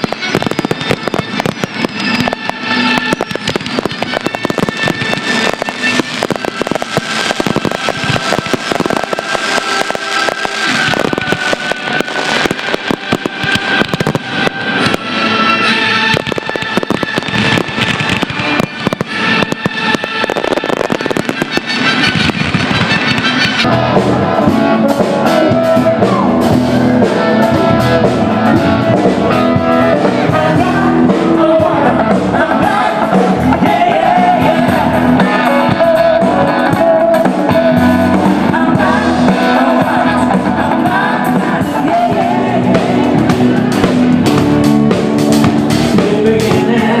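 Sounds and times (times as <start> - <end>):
fireworks bursting: 0.0 - 46.4
loud music with singing: 0.0 - 47.0.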